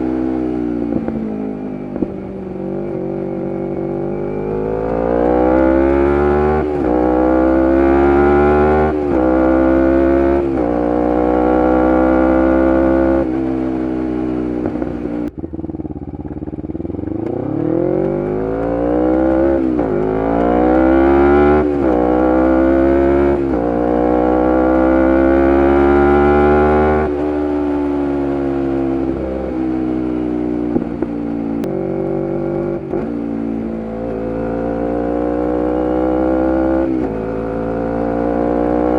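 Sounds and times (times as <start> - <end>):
motorcycle engine accelerating hard: 0.0 - 38.9.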